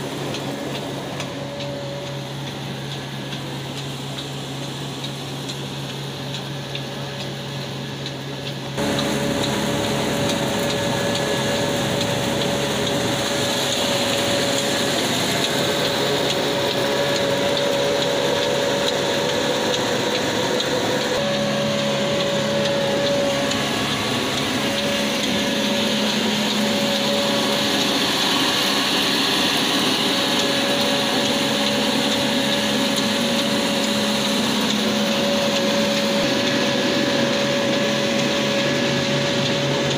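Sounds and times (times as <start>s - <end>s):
diesel engine running: 0.0s - 39.9s
grinding mill: 0.0s - 39.9s.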